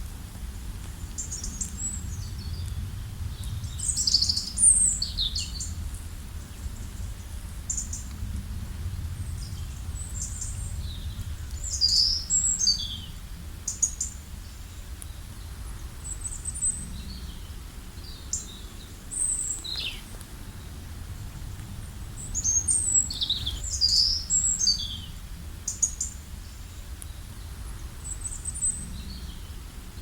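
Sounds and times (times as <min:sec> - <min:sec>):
steady low rumble: 0:00.0 - 0:30.0
songbirds chirping and whistling: 0:00.8 - 0:08.2, 0:08.8 - 0:30.0.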